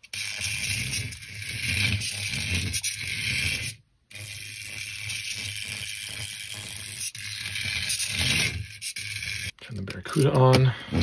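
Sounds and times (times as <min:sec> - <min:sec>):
small electric motor whirring: 0:00.0 - 0:09.6.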